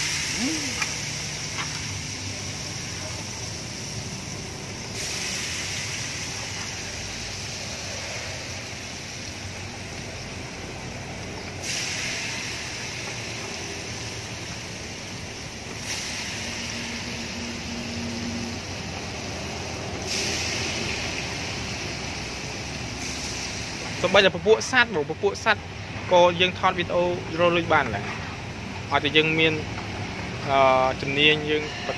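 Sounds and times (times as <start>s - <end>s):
chicken deep-frying in oil: 0.0s - 27.4s.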